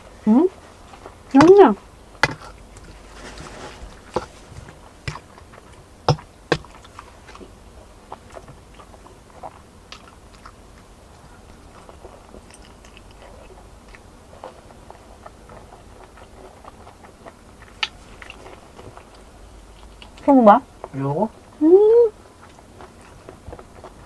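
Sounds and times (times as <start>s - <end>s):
person chewing and biting food: 1.9s - 20.2s, 22.3s - 24.0s.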